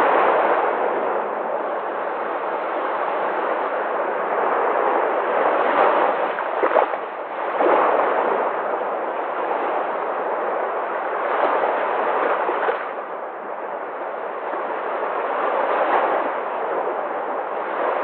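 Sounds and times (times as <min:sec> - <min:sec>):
waves breaking and washing in: 0:00.0 - 0:18.0.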